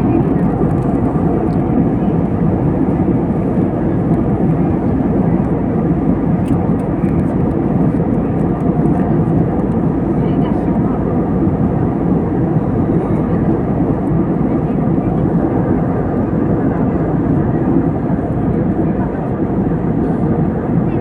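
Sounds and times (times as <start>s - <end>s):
airliner cabin engine roar: 0.0s - 21.0s.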